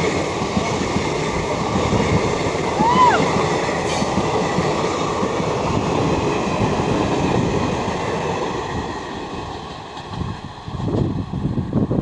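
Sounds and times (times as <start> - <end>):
train rumbling past on rails: 0.0 - 12.0.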